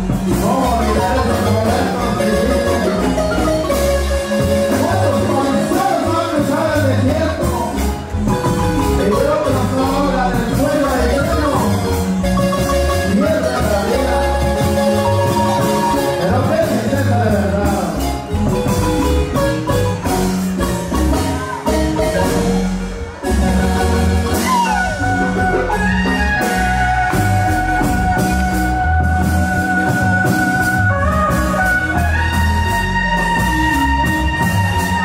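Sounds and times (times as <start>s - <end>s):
marimba runs: 0.0s - 35.0s
steady bass line: 0.0s - 35.0s.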